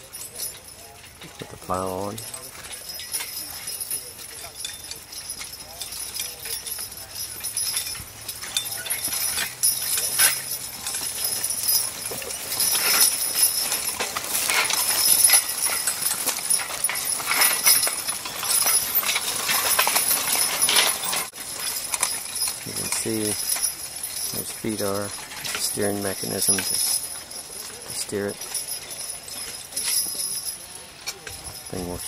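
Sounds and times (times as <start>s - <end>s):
horse hoof steps: 0.0s - 30.2s
harness and metal clinking: 0.0s - 32.0s.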